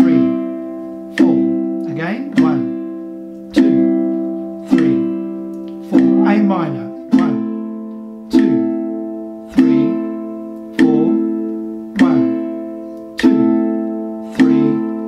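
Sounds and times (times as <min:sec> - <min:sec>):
ukulele chord strums: 0:00.0 - 0:15.0.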